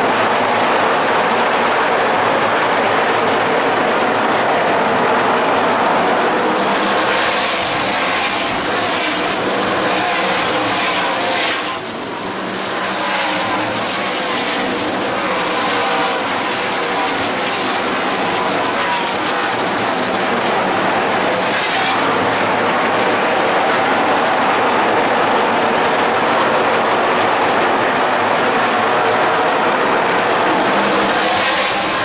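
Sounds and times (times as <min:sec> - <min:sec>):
race truck engines droning: 0:00.0 - 0:32.0.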